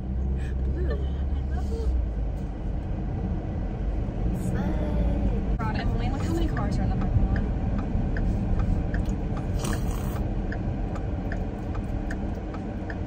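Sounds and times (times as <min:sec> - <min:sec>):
low rumble inside car: 0:00.0 - 0:13.0
turn signal ticking: 0:02.3 - 0:13.0.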